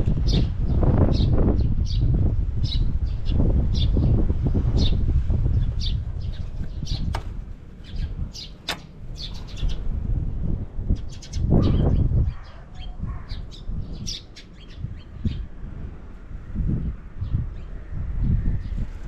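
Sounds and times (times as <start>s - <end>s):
birds chirping: 0.2s - 19.0s.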